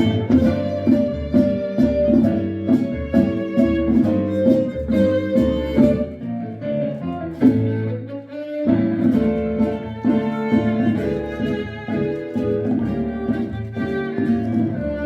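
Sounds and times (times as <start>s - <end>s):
bowed strings: 0.0s - 15.0s
guitar: 0.0s - 15.0s.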